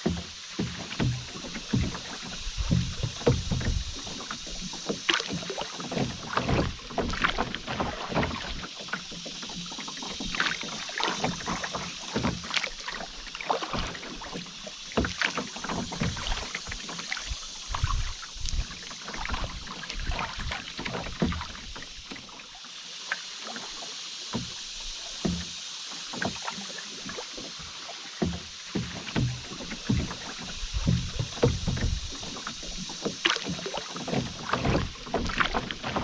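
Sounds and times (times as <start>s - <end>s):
paddle knocks and splashes: 0.0s - 36.0s
rushing river water: 0.0s - 36.0s.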